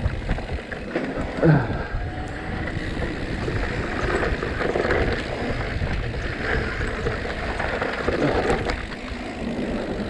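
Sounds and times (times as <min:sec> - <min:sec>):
wind on microphone: 0:00.0 - 0:09.0
mountain bike rattling on dirt: 0:00.0 - 0:10.0.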